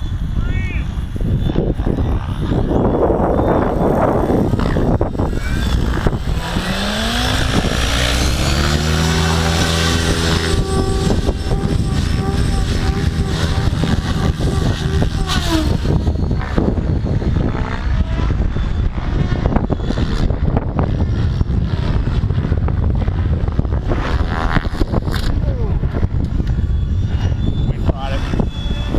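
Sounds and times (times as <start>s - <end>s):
model helicopter rotor whine: 0.0s - 28.9s
wind rumble on microphone: 0.0s - 28.9s.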